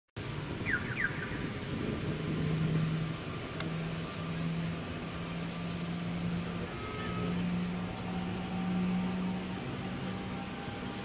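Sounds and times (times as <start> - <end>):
vehicle engine humming: 0.2 - 11.0.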